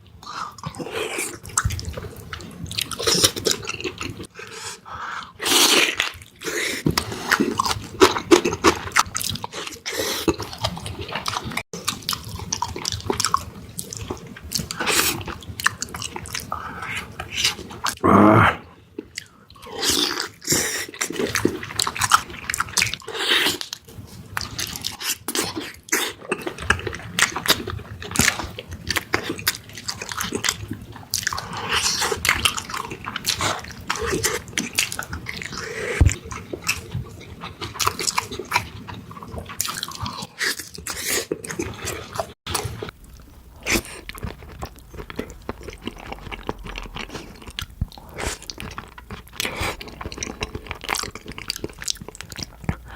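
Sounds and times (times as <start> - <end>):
chewing and biting: 0.2 - 4.5, 5.4 - 18.0, 19.0 - 52.9.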